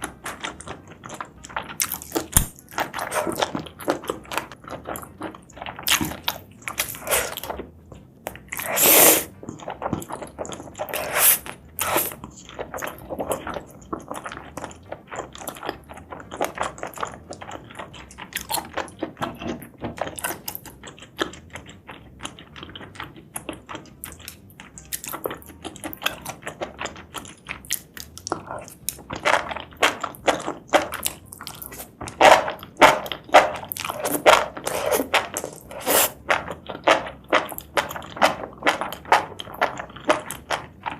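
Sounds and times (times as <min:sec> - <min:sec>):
person chewing and biting: 0:00.0 - 0:40.9.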